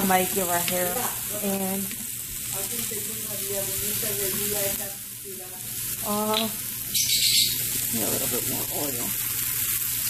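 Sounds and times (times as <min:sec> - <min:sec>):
oil sizzling in a frying pan: 0:00.0 - 0:10.0.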